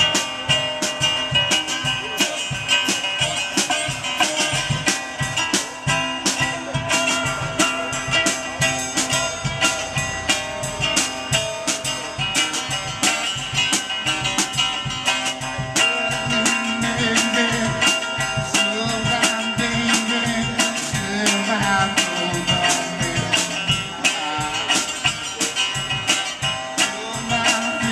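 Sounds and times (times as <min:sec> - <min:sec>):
drum kit steady beat: 0:00.0 - 0:27.9
electric guitar playing blues: 0:00.0 - 0:27.9.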